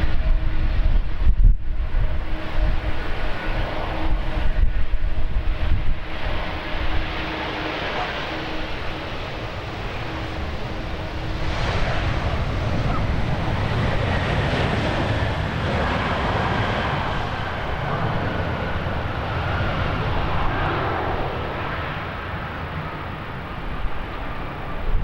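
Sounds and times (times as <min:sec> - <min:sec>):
wind rumbling on microphone: 0:00.0 - 0:25.0
jet engines whining: 0:02.0 - 0:25.0.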